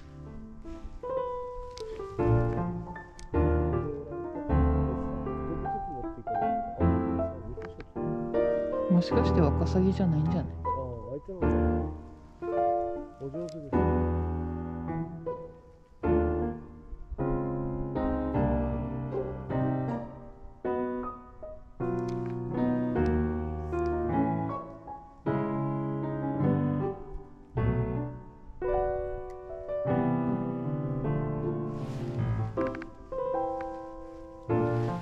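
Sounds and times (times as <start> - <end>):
piano chords ringing: 0.0 - 35.0.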